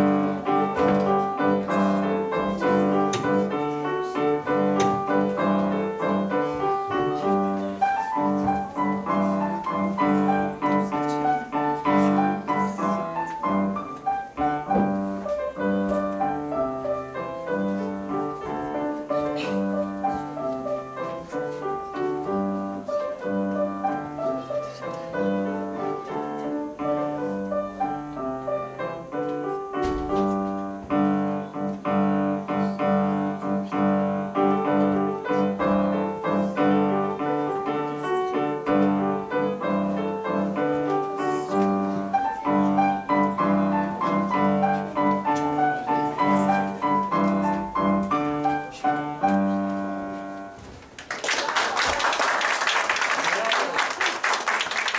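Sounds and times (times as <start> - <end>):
solo grand piano: 0.0 - 51.0.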